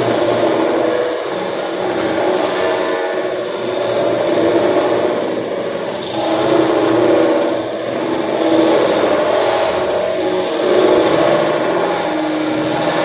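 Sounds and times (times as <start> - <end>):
buzzing synthesizer drone: 0.0 - 13.0.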